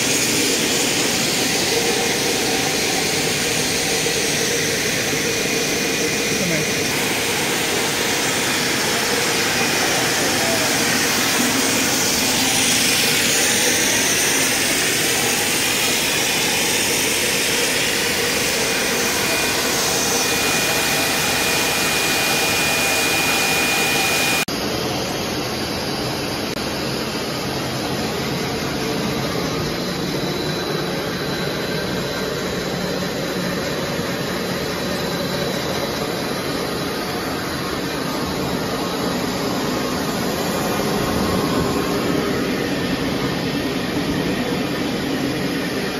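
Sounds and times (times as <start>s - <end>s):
motors high whine: 0.0s - 25.3s, 26.2s - 45.9s
machinery noise: 0.0s - 45.9s.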